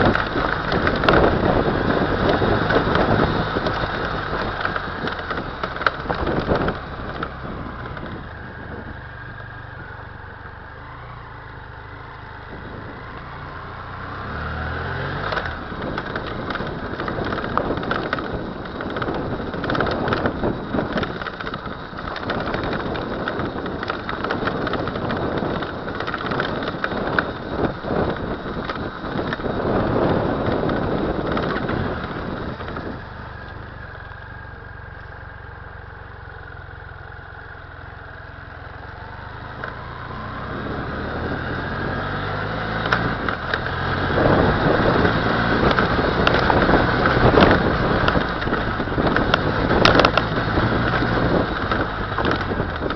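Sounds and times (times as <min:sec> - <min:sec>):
wind noise: 0:00.0 - 0:10.2, 0:12.2 - 0:34.9, 0:38.6 - 0:52.9
motorcycle engine running: 0:00.0 - 0:52.9.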